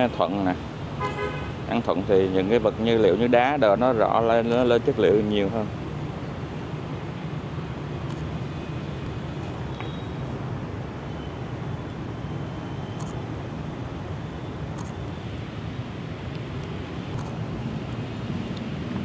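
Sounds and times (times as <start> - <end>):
city traffic hum: 0.0 - 19.0.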